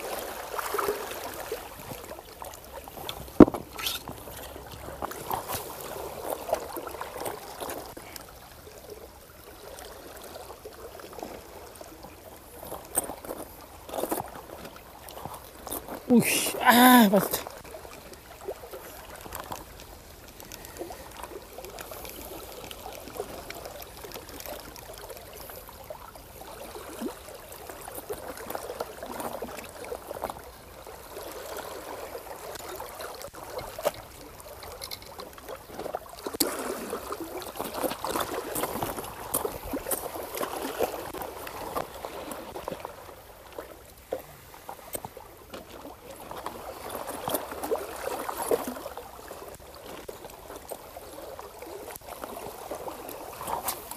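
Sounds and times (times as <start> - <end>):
water lapping against rocks: 0.0 - 53.9.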